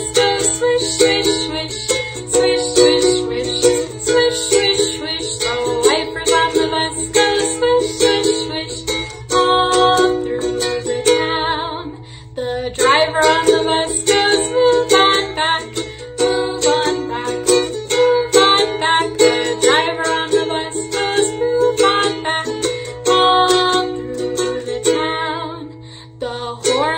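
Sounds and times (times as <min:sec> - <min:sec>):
strummed string instrument chords: 0:00.0 - 0:26.9.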